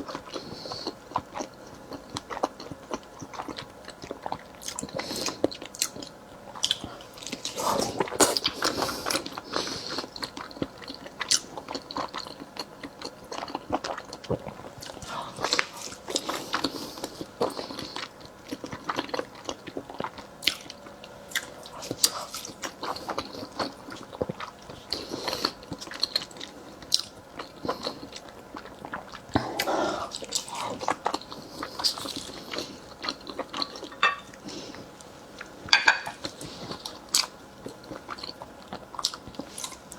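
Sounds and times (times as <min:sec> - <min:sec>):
person chewing: 0:00.0 - 0:39.9.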